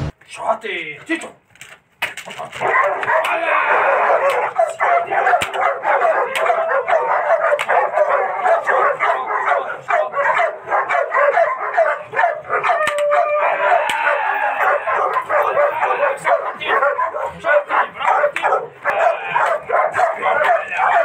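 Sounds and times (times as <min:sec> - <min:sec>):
dog barking rapidly: 0:02.6 - 0:21.0.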